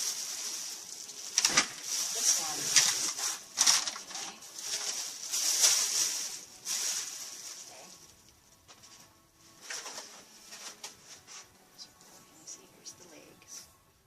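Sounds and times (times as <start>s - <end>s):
packaging rustling and scraping: 0.0s - 12.3s.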